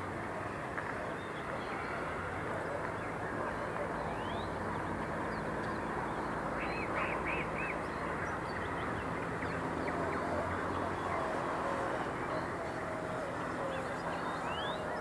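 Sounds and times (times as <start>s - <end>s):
background city rumble: 0.0s - 15.0s.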